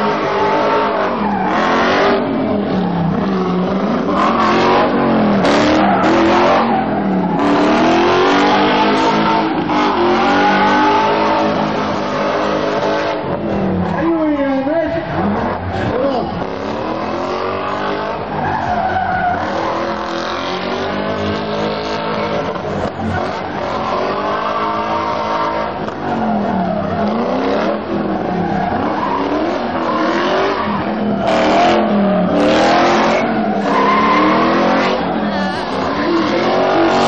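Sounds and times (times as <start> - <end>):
car engine revving: 0.0 - 37.0
tyres skidding and squealing: 0.0 - 37.0.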